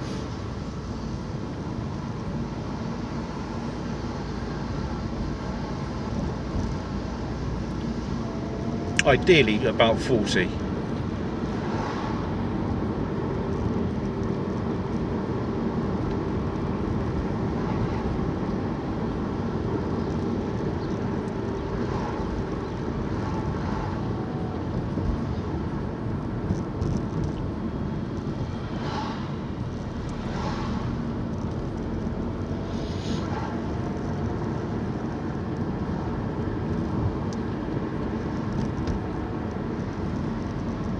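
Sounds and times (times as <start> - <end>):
car engine and tyre noise: 0.0 - 40.9.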